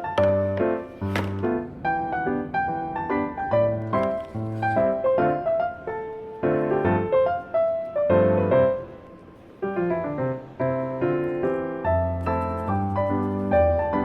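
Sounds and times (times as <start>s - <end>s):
solo piano melody: 0.0s - 14.0s.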